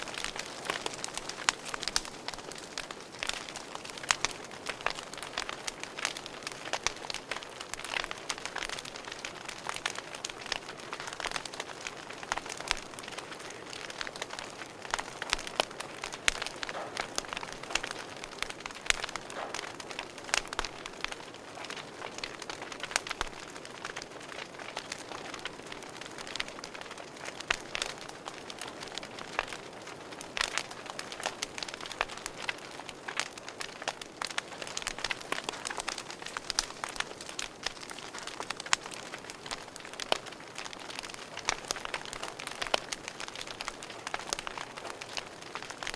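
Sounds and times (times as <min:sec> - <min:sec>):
fire popping and snapping: 0:00.0 - 0:45.9
wood fire hissing: 0:00.0 - 0:45.9.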